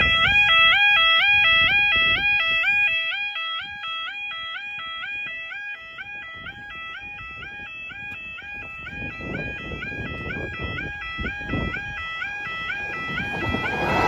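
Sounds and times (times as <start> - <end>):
level crossing warning alarm: 0.0 - 14.0.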